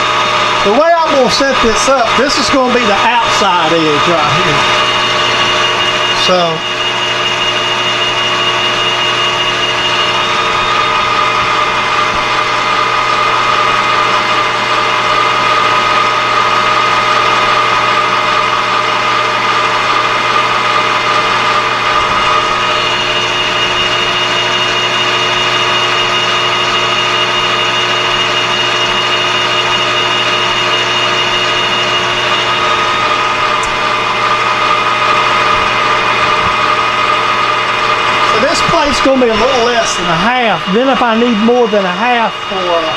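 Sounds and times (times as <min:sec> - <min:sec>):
high tones from cutting metal: 0:00.0 - 0:42.9
metal lathe humming: 0:00.0 - 0:42.9.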